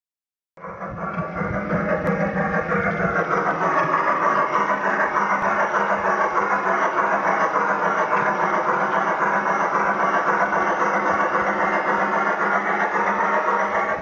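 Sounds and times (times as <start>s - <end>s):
simulated steam chuffing: 0.6s - 14.0s.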